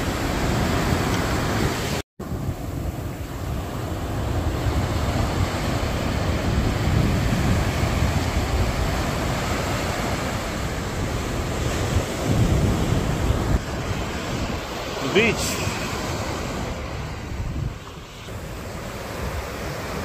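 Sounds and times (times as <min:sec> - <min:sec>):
ocean surf on sandy beach: 0:00.0 - 0:20.0
wind buffeting microphone: 0:00.0 - 0:20.0.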